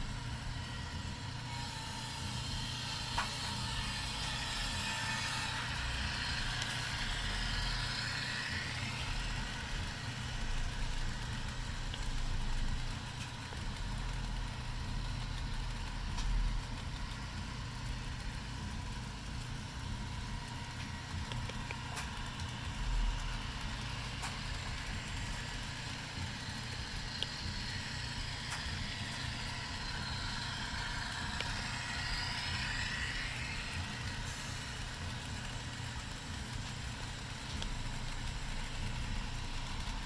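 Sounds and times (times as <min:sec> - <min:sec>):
diesel engine sound from small speakers: 0:00.0 - 0:40.0.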